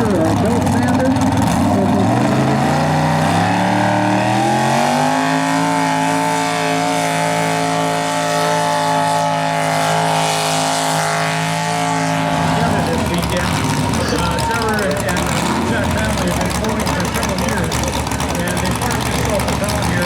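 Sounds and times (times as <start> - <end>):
tractor engine revving: 0.0 - 20.0.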